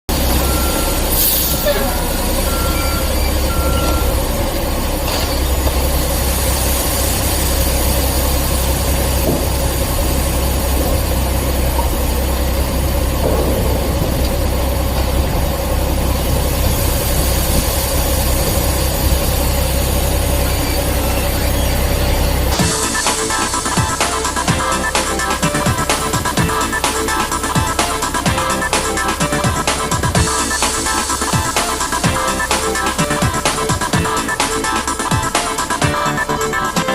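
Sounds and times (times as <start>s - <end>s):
heavy diesel engine running: 0.0s - 36.9s
vehicle backup alarm beeping: 0.1s - 36.9s.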